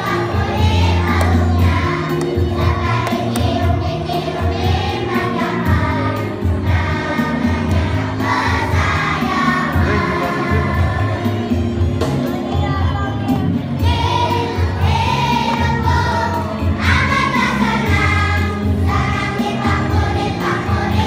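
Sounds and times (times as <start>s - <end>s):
music backing track with bass: 0.0s - 21.0s
young children singing: 0.0s - 21.0s.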